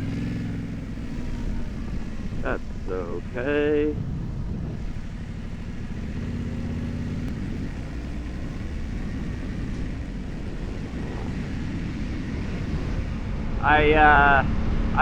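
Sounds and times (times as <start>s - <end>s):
motorcycle engine low rumble: 0.0s - 15.0s.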